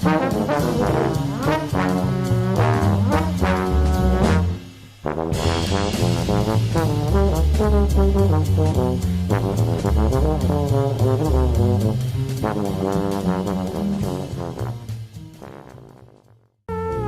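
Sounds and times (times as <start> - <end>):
walking acoustic bass: 0.0 - 4.6, 5.6 - 16.1
drum kit cymbal strokes: 0.0 - 15.4
trombone playing quick notes: 0.0 - 17.0.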